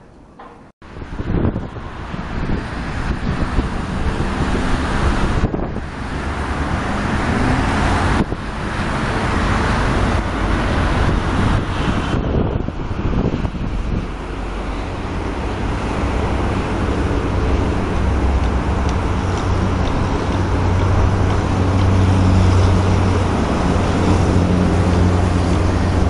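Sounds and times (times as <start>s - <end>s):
road traffic rumbling: 0.0s - 26.0s
deep engine drone: 2.5s - 26.0s.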